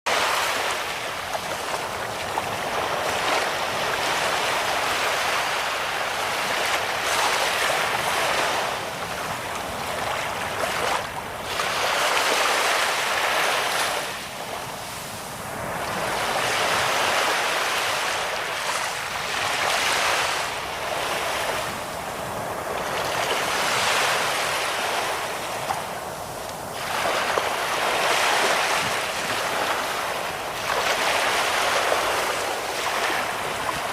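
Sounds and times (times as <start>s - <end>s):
ocean waves washing ashore: 0.1s - 33.9s.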